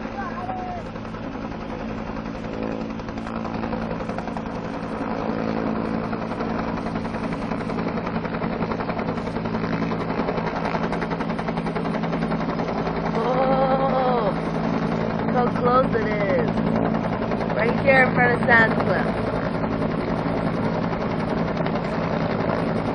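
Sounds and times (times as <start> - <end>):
helicopter rotor chop: 0.0 - 22.9
turbine hum: 0.0 - 22.9.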